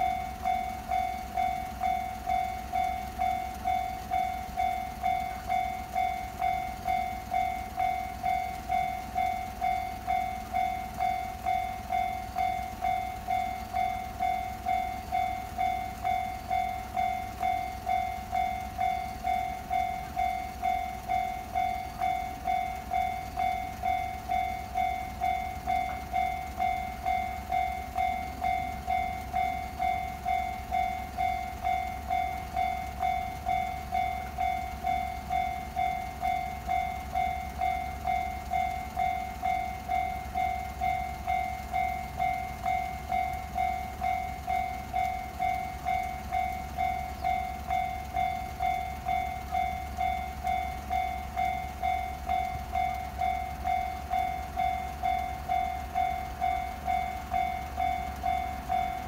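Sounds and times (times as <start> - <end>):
level crossing bell ringing: 0.0 - 59.0.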